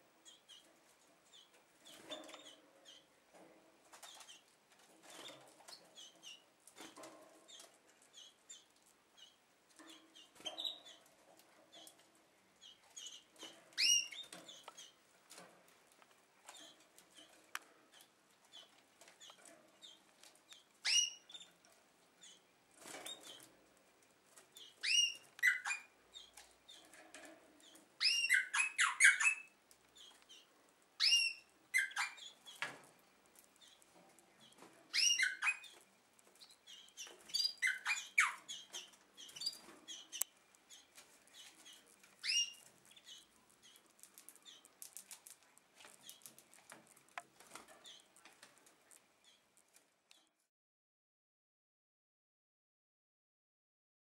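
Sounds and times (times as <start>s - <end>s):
canaries chirping: 0.0s - 50.4s.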